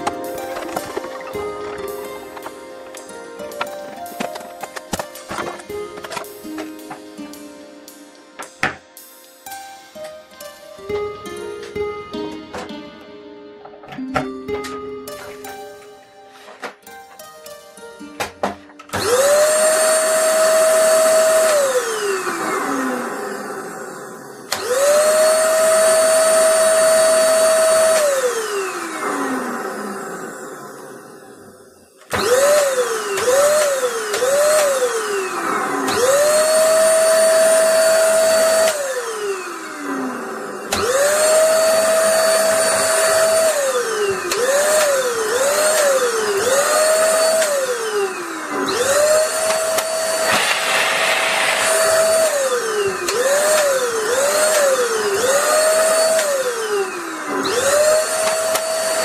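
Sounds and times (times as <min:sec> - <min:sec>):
vacuum cleaner motor whining: 0:00.0 - 0:07.2, 0:18.2 - 0:59.0.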